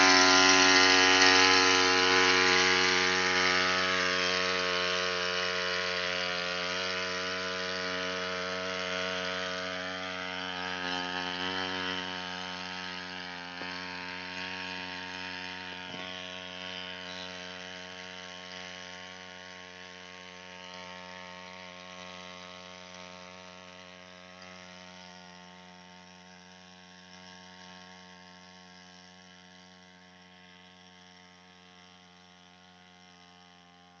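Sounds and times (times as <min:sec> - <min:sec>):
two-stroke sprayer engine running: 0:00.0 - 0:34.0.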